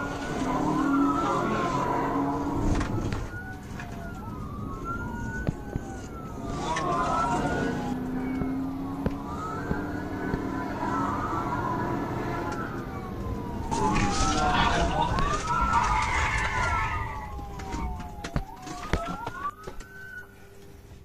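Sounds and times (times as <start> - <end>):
police siren wailing: 0.0 - 21.0
vehicle and road noise: 0.0 - 21.0.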